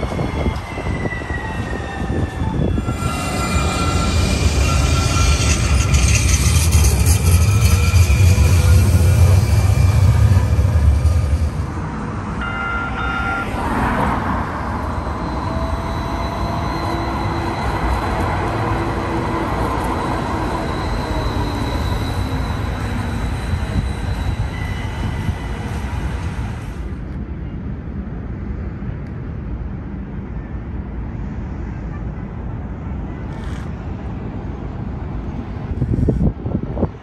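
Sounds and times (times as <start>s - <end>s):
streetcar electric whine: 0.0s - 32.0s
outdoor background: 0.0s - 37.0s
wheels rumbling on rail: 0.0s - 37.0s.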